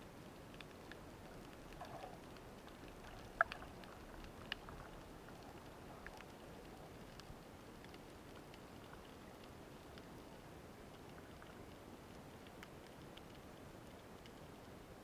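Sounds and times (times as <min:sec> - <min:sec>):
small clicks and crackles: 0:00.0 - 0:15.0.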